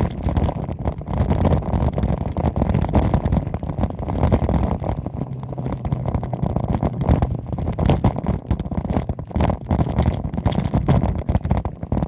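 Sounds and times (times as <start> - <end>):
bike knocks and rattles: 0.0 - 12.0
tyres rolling on gravel: 0.0 - 12.0
wind buffeting microphone: 0.0 - 12.0.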